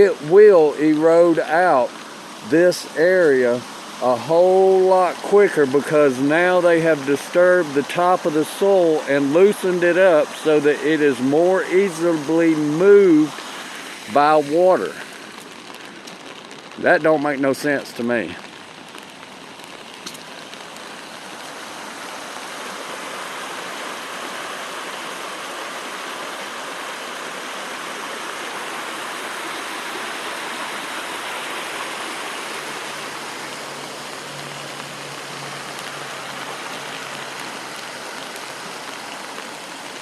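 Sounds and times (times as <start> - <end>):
rain falling: 0.0 - 40.0
rainwater runoff rushing: 0.0 - 40.0.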